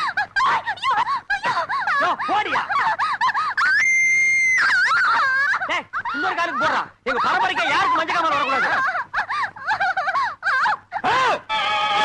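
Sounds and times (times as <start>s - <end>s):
woman shrieking and wailing: 0.0s - 12.0s.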